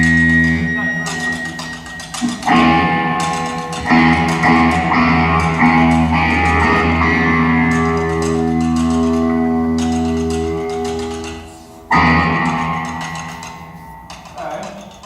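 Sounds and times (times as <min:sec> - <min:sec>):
electric guitar chords: 0:00.0 - 0:14.3.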